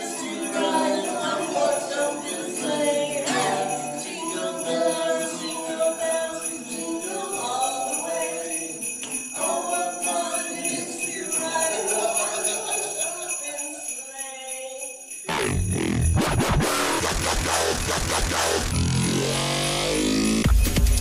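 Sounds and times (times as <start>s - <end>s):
christmas music: 0.0s - 21.0s
sleigh bells in christmas music: 0.0s - 21.0s.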